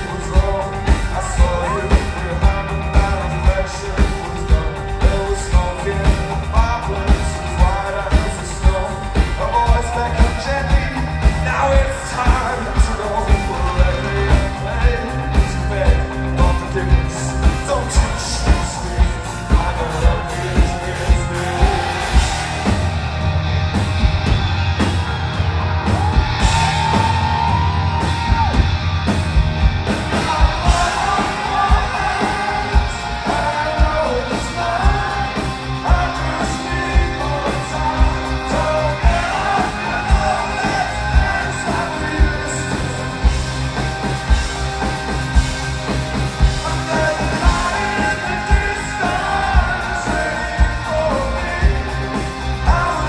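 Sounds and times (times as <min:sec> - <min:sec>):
person singing: 0:00.0 - 0:23.1, 0:30.0 - 0:44.3, 0:46.2 - 0:53.0
live rock band playing: 0:00.0 - 0:53.0.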